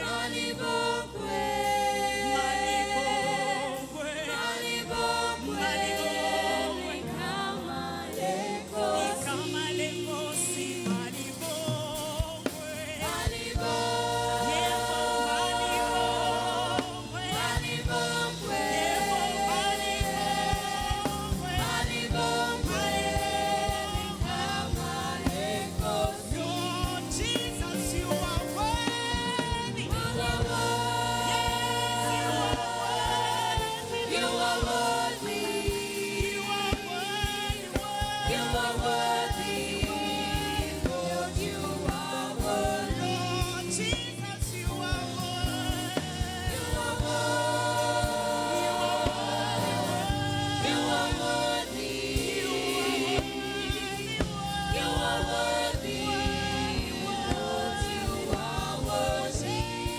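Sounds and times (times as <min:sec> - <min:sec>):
choir singing gospel song: 0:00.0 - 0:59.9
band accompaniment with drumbeat: 0:03.6 - 0:59.9.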